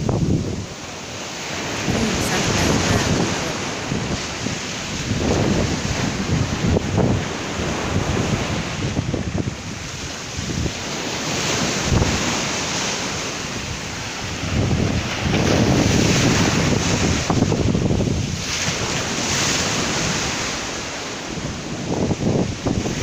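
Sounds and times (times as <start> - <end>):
sea waves breaking on shore: 0.0 - 23.0
wind buffeting microphone: 0.0 - 23.0.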